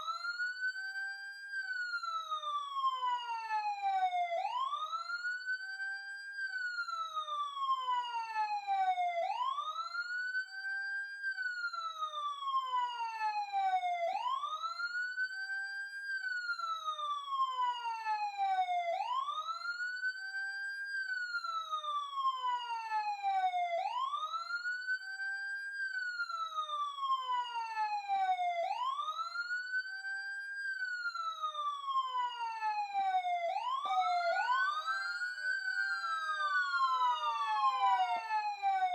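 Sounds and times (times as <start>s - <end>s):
police siren wailing: 1.8s - 5.8s, 6.8s - 10.5s, 11.3s - 15.6s, 16.2s - 38.9s.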